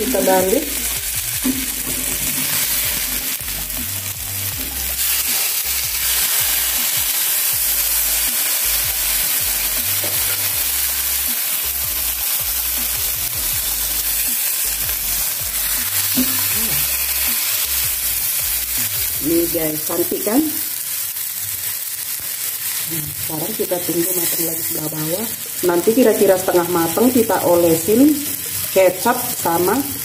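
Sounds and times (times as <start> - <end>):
fish sizzling in a pan: 0.0 - 30.0.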